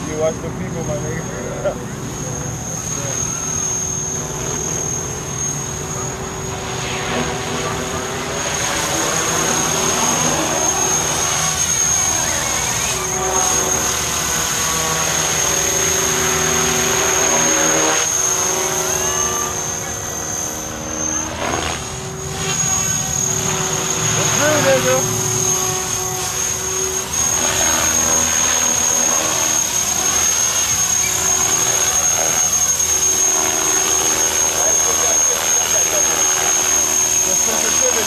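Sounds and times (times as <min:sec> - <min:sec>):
rc helicopter rotor whine: 0:00.0 - 0:38.0.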